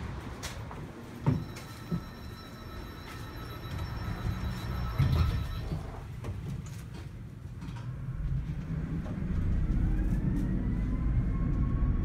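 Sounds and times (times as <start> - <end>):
tram rumbling along rails: 0.0 - 12.0.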